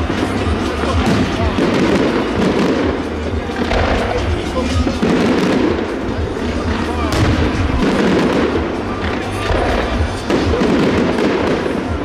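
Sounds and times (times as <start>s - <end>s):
crowd talking: 0.0s - 12.0s
fireworks bangs and crackles: 0.0s - 12.0s.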